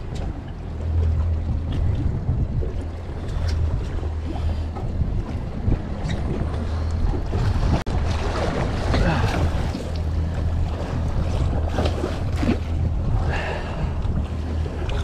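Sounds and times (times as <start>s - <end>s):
outboard boat engines idling: 0.0s - 15.0s
water washing: 0.0s - 15.0s
wind on microphone: 0.0s - 15.0s.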